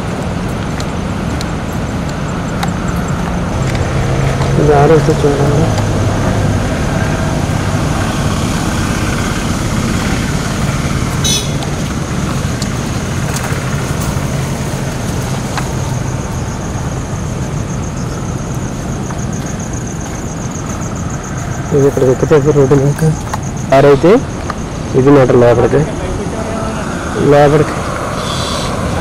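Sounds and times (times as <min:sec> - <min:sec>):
motorbike engine rumbling: 0:00.0 - 0:29.0.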